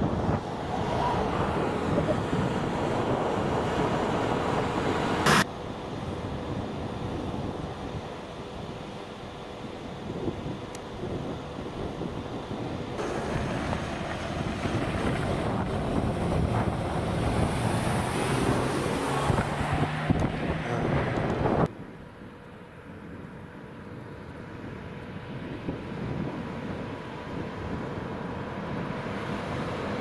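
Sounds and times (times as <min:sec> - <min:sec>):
wind buffeting microphone: 0:00.0 - 0:22.1, 0:24.3 - 0:30.0
car engine and tyre noise: 0:00.0 - 0:30.0
steady road noise: 0:00.0 - 0:30.0.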